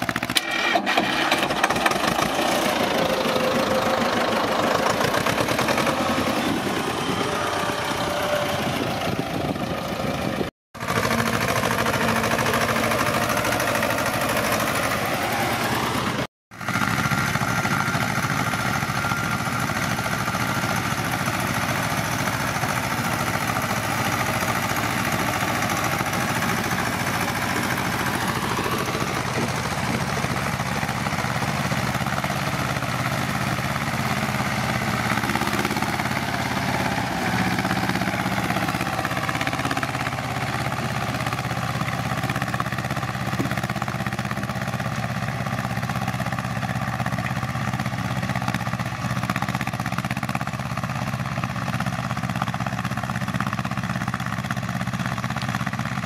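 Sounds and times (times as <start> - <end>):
tractor diesel engines running: 0.0 - 56.0.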